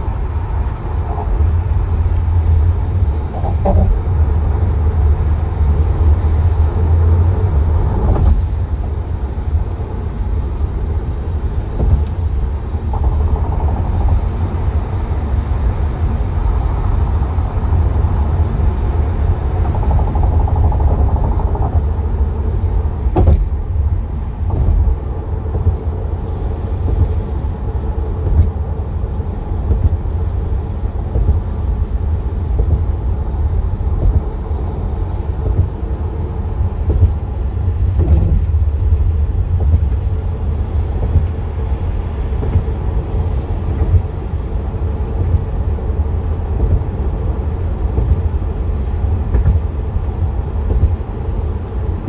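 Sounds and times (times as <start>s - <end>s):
car road rumble from inside: 0.0s - 52.0s.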